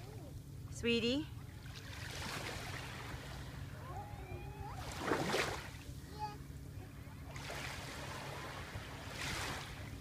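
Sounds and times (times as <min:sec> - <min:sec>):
steady low hum: 0:00.0 - 0:10.0
small waves washing ashore: 0:00.7 - 0:06.2, 0:06.8 - 0:10.0.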